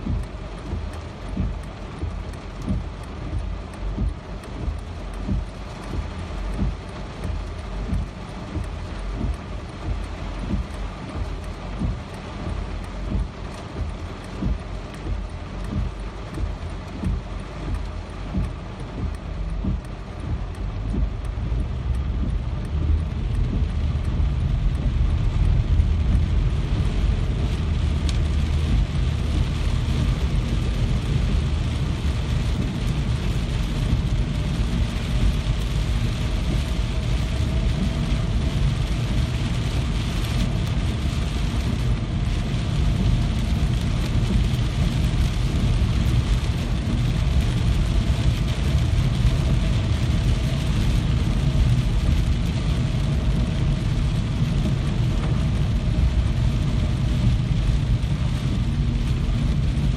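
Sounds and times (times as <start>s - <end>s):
deep rumble: 0.0s - 59.9s
rain hissing: 0.0s - 59.9s.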